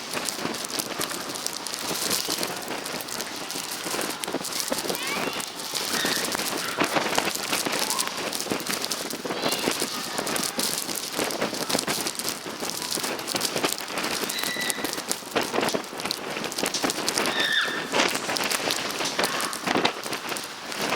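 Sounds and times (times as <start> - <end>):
snow pelting microphone: 0.0 - 20.9
wind gusts: 0.0 - 20.9.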